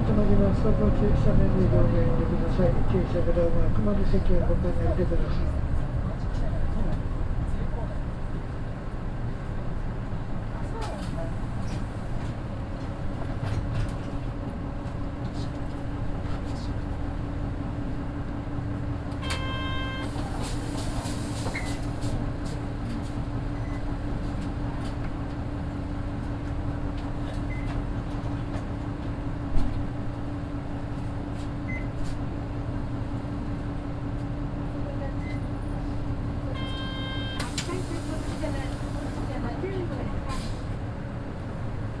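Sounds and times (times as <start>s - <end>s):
bus diesel engine humming: 0.0s - 42.0s.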